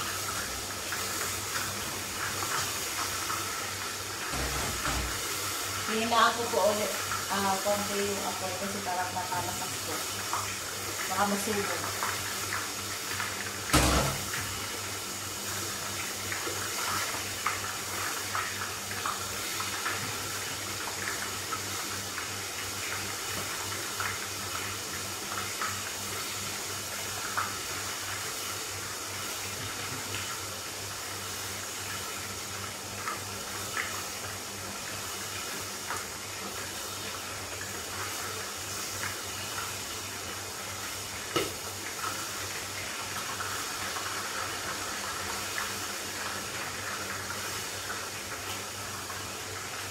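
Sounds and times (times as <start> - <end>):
chicken sizzling in oil: 0.0 - 49.9.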